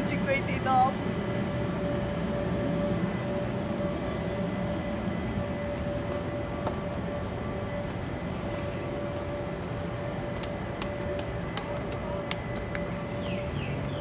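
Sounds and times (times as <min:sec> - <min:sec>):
city traffic rumble: 0:00.0 - 0:14.0
constant hum: 0:00.0 - 0:14.0.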